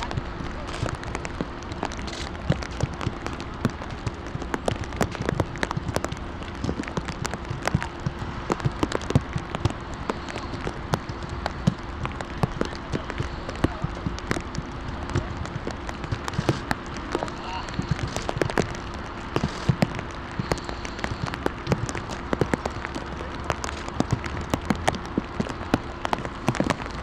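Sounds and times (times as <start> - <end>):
faint steady hum: 0.0 - 27.0
heavy rain falling: 0.0 - 27.0.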